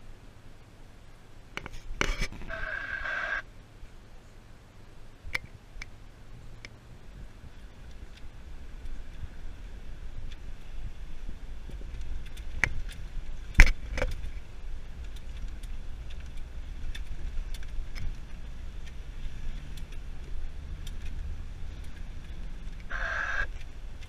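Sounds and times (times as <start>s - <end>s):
off-road vehicle engine and tyres: 0.0s - 24.0s.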